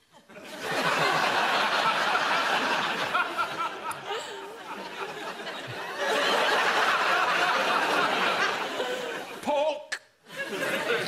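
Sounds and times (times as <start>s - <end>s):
audience laughing: 0.1s - 9.4s, 10.3s - 11.0s.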